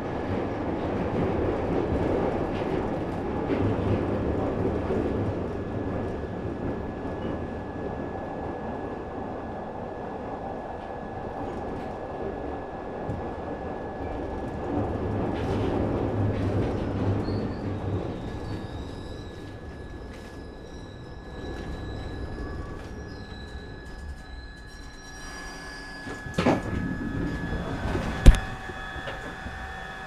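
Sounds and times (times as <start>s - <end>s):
subway train rumble and whine: 0.0s - 30.0s.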